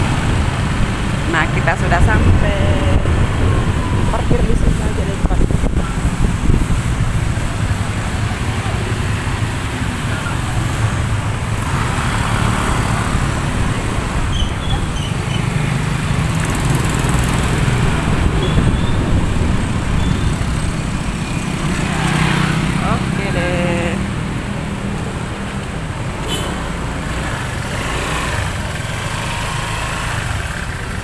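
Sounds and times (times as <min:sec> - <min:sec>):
road and wind noise: 0:00.0 - 0:31.0
street traffic: 0:00.0 - 0:31.0.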